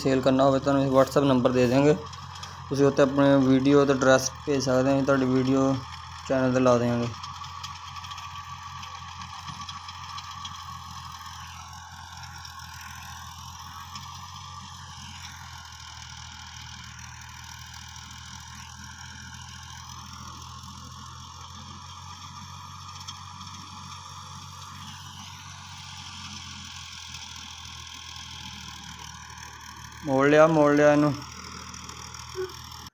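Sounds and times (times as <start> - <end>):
rotavator whining: 0.0 - 32.9
tractor diesel engine hum: 0.0 - 32.9.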